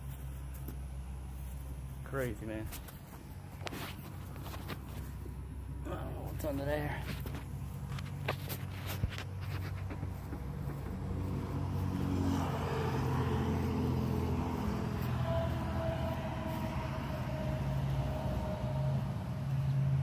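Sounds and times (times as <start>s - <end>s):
low traffic engine hum: 0.0s - 20.0s
passing vehicle whine: 0.0s - 20.0s.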